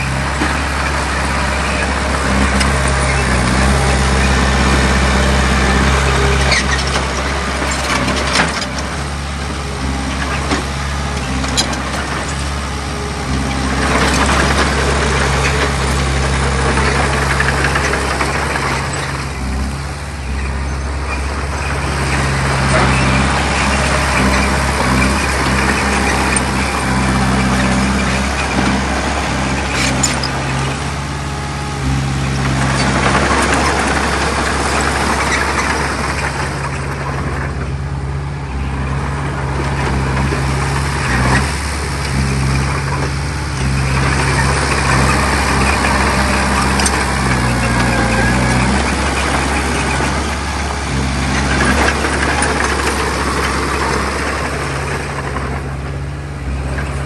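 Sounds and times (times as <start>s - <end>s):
bulldozer diesel engine running: 0.0s - 57.0s
grinding clatter: 0.0s - 57.0s.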